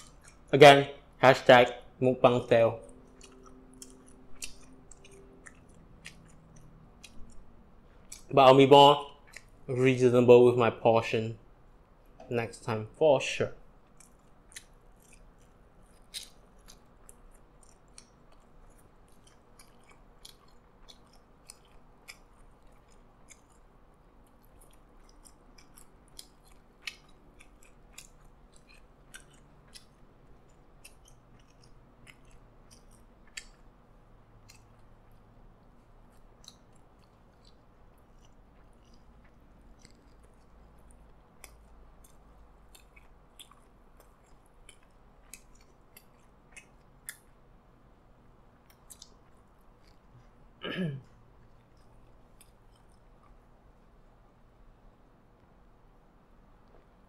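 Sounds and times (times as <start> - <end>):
chewing with mouth clicks: 0.0 - 0.5, 2.4 - 8.4, 9.0 - 9.7, 13.6 - 47.5, 48.6 - 53.9.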